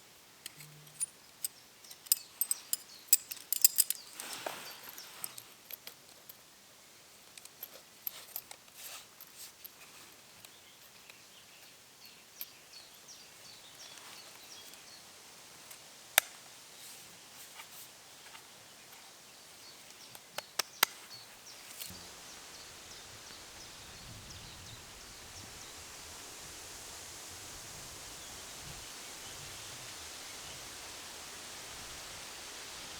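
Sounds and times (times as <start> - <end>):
soft hiss: 0.0 - 32.9.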